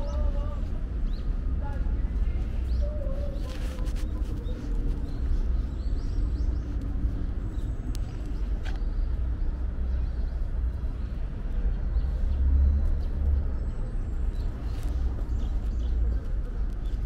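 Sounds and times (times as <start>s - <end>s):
city street rumble: 0.0s - 17.0s.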